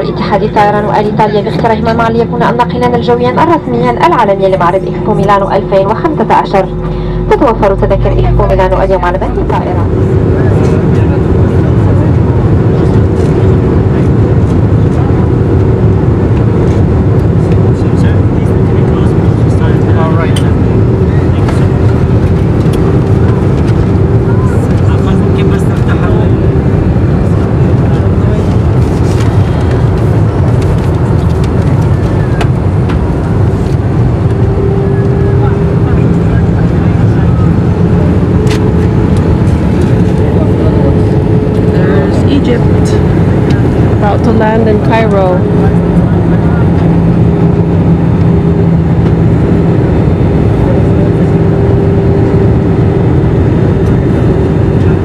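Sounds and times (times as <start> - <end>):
airliner engines and airflow rumble: 0.0 - 55.0
higher steady hum: 0.0 - 55.0
low hum: 0.0 - 55.0.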